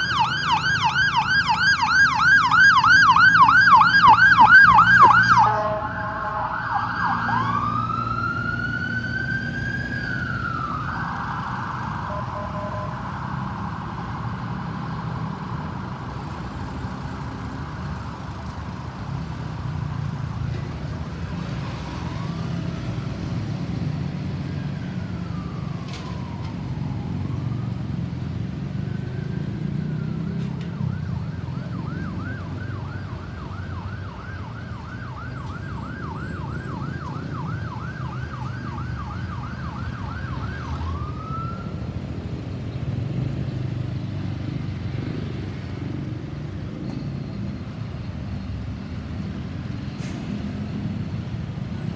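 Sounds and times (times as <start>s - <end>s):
ambulance siren: 0.0s - 51.9s
road traffic and engine noise: 0.0s - 51.9s.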